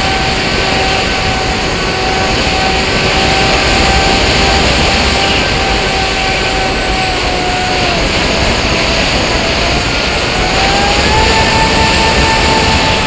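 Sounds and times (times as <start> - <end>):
model aircraft motor whine: 0.0 - 13.0
rushing air noise: 0.0 - 13.0.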